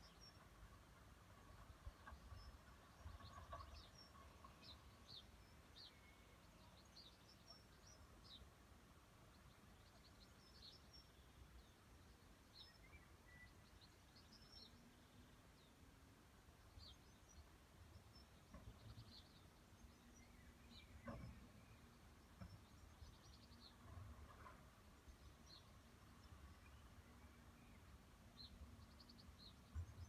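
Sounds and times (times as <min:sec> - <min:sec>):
faint birdsong chirps: 0:00.0 - 0:30.0.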